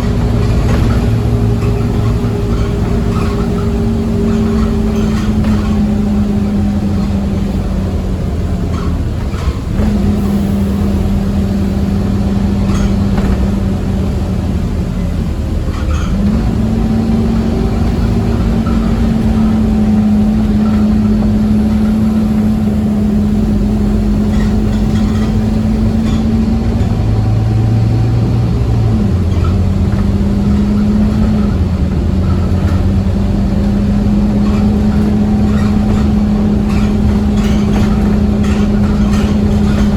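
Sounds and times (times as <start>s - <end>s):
bus engine hum: 0.0s - 39.9s
road rumble: 0.0s - 39.9s.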